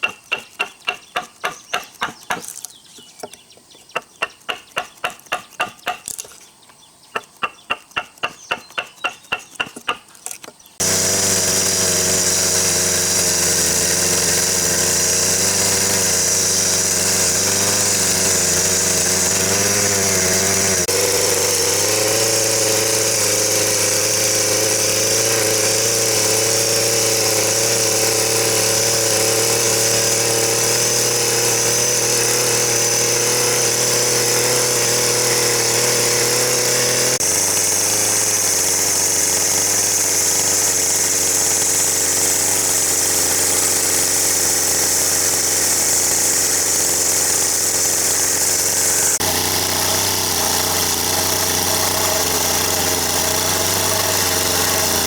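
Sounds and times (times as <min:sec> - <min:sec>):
motor-driven power tool running: 0:10.8 - 0:55.0.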